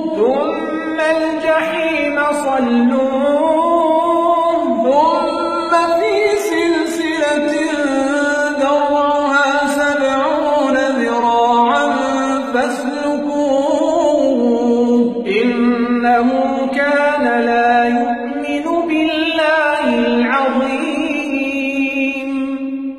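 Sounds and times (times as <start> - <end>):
man reciting melodically: 0.0 - 22.9.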